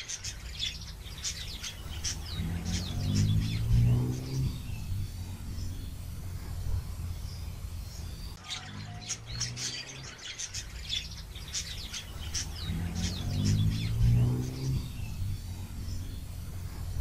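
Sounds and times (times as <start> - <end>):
small birds chirping: 0.0 - 17.0
low hum: 0.7 - 17.0.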